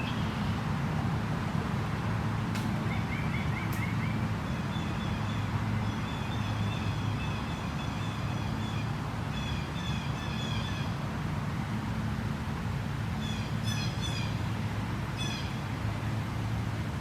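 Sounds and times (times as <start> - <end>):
low traffic hum: 0.0 - 17.0.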